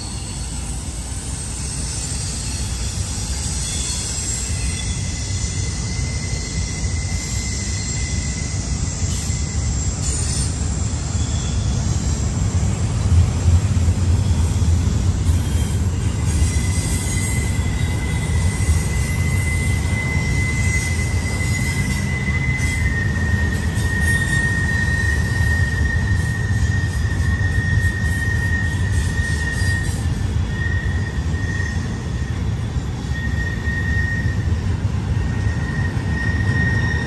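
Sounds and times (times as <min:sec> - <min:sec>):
high wheel squeal: 0:00.0 - 0:37.0
train rumble: 0:00.0 - 0:37.0.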